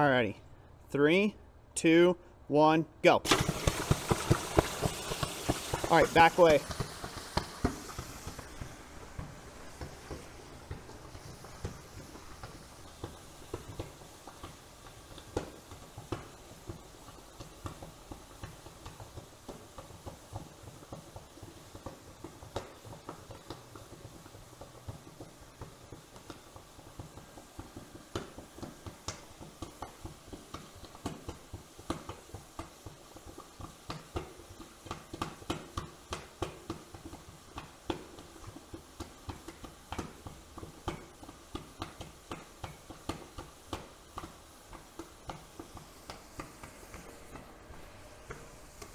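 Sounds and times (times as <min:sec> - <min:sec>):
crackling and popping: 0:03.2 - 0:48.9
water boiling on hot metal: 0:03.3 - 0:48.9.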